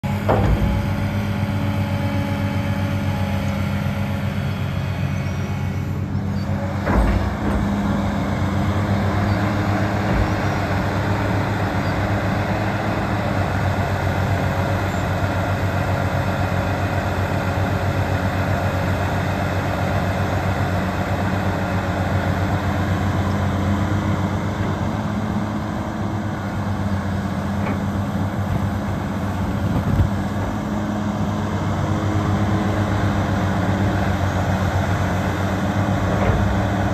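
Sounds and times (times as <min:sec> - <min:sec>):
excavator diesel engine drone: 0:00.0 - 0:36.9.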